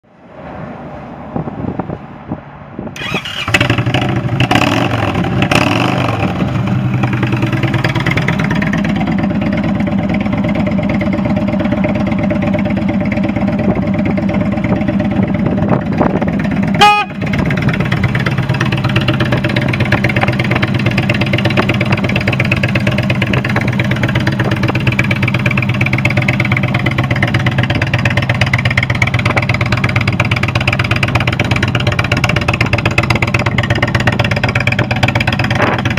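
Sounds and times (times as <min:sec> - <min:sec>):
motorcycle engine revving and idling: 0:03.0 - 0:35.9.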